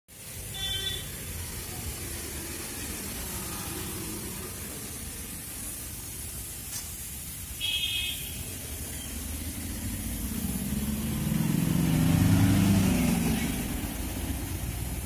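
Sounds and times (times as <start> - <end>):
sprinkler spraying water: 0.1 - 15.0.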